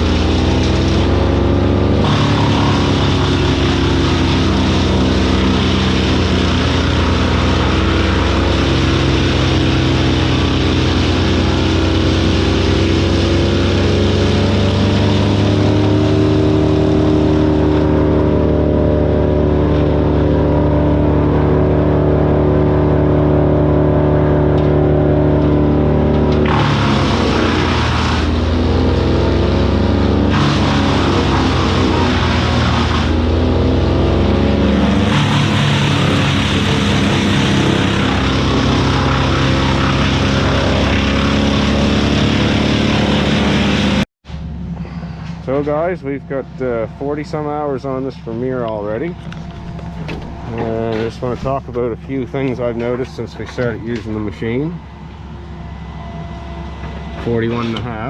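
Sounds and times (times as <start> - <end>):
wood chipper engine running: 0.0 - 58.0.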